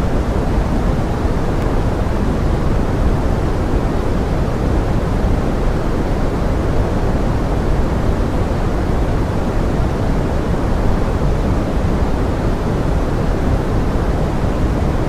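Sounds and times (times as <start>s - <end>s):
pink noise: 0.0s - 15.0s.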